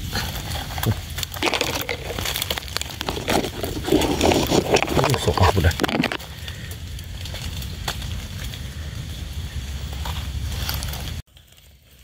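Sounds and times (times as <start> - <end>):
dry leaves crackling: 0.0 - 12.0.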